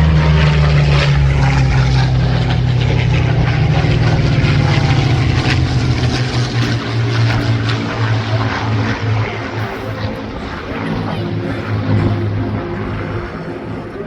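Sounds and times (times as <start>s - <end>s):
propeller aircraft flying past: 0.0s - 14.0s.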